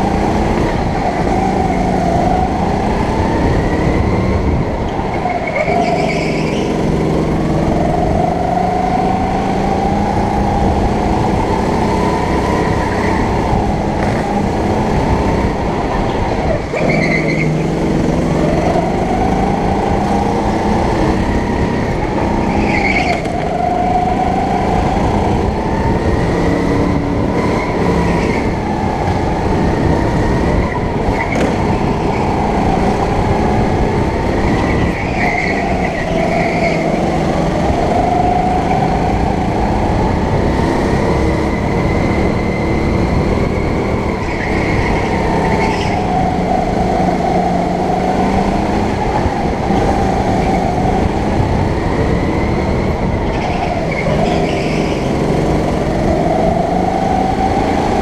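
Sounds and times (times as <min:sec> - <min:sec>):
go-kart engine accelerating: 0:00.0 - 0:58.0.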